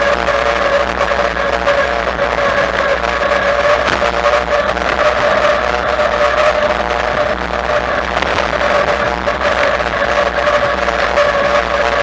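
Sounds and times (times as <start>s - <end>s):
electric bike motor whine: 0.0s - 12.0s
wind and road noise: 0.0s - 12.0s.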